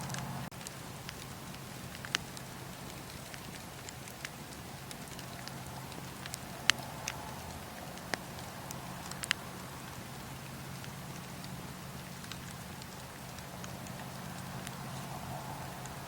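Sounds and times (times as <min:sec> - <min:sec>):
steady low hum: 0:00.0 - 0:16.0
wood fire crackling: 0:00.0 - 0:16.0
sharp pops from fire: 0:00.1 - 0:16.0.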